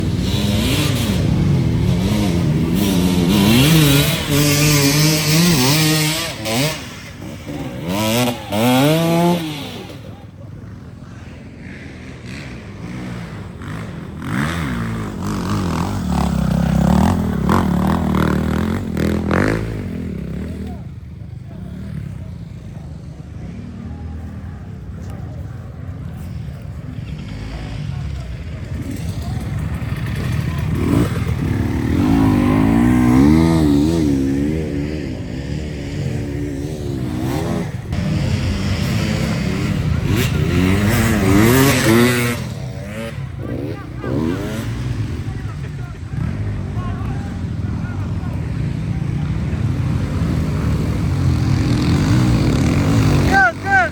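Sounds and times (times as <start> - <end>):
motorbike engine revving: 0.0 - 10.4, 11.5 - 25.0, 25.9 - 53.9.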